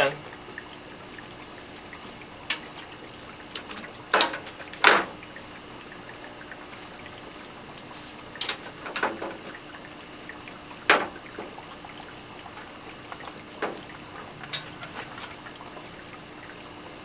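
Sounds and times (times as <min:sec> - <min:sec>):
aquarium water trickling: 0:00.0 - 0:17.0.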